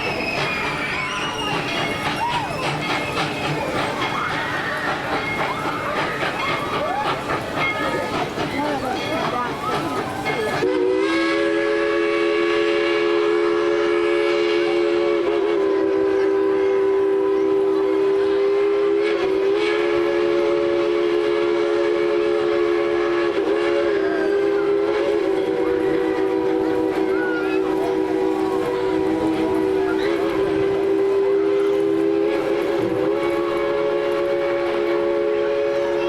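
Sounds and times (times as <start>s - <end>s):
steam locomotive whistle blast: 0.0s - 8.1s, 9.6s - 36.0s.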